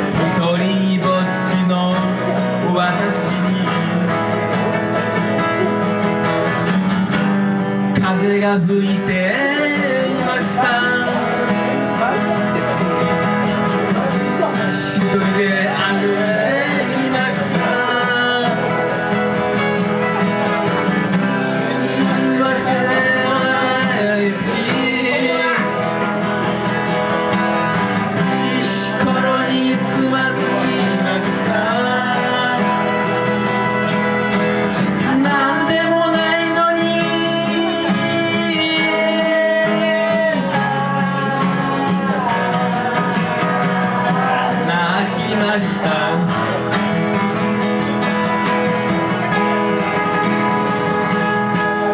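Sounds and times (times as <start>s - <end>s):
bending guitar lead melody: 0.0s - 51.9s
steady guitar accompaniment: 0.0s - 51.9s.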